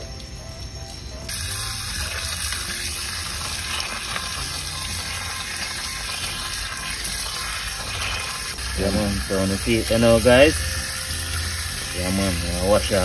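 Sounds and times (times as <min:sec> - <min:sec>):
water running from a tap: 0:01.3 - 0:13.0
water splashing over meat: 0:01.3 - 0:13.0.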